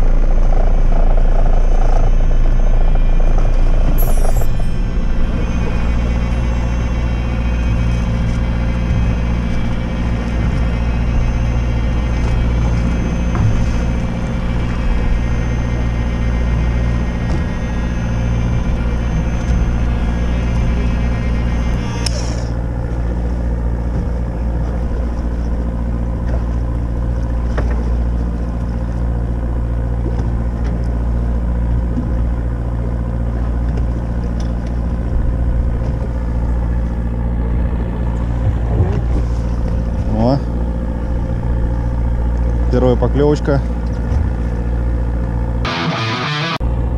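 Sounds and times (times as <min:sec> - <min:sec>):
boat engine humming: 0:00.0 - 0:46.9.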